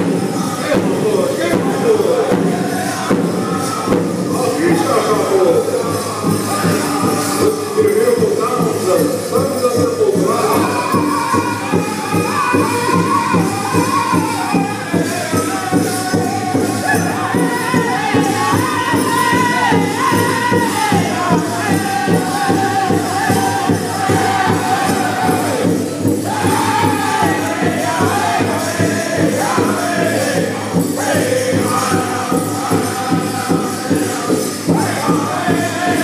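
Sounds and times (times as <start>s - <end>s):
fast steady drumbeat: 0.0s - 36.0s
group singing: 0.0s - 36.0s.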